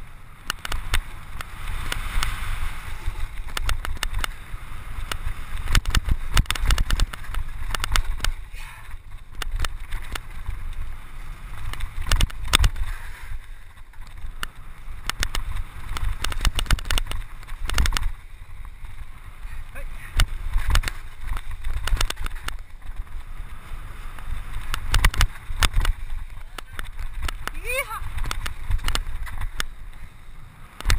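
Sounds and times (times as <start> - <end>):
bike rattling and knocking: 0.0 - 30.1
wind rumbling on microphone: 0.0 - 30.9.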